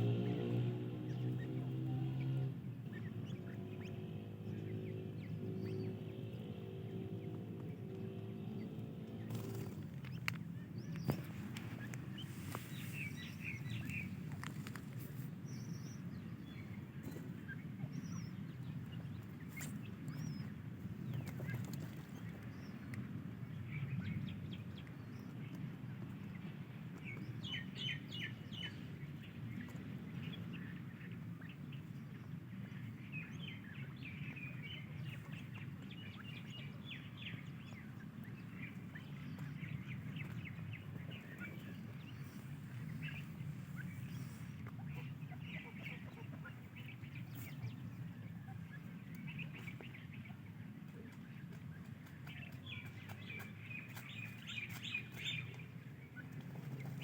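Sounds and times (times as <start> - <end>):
chicks peeping: 0.1 - 57.0.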